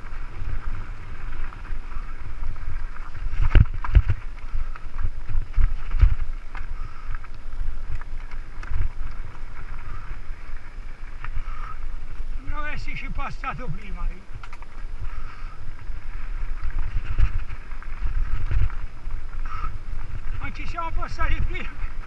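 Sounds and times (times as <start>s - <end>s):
bike knocking and rattling: 0.0s - 22.0s
tyres rumbling on loose stones: 0.0s - 22.0s
wind noise on microphone: 0.0s - 22.0s.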